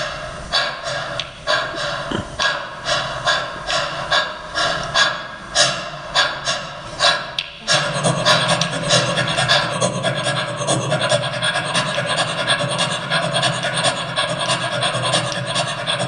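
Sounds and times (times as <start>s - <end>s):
fast percussion strokes: 0.0s - 16.0s.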